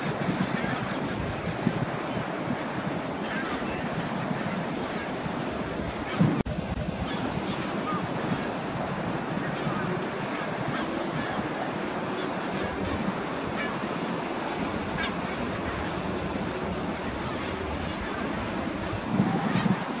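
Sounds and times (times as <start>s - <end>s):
surf washing on shore: 0.0s - 20.0s
wind on microphone: 0.0s - 20.0s.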